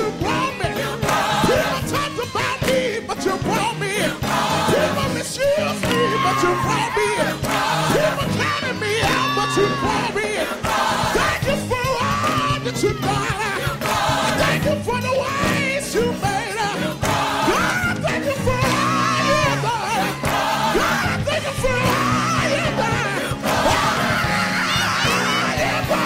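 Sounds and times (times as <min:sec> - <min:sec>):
gospel choir singing: 0:00.0 - 0:26.0.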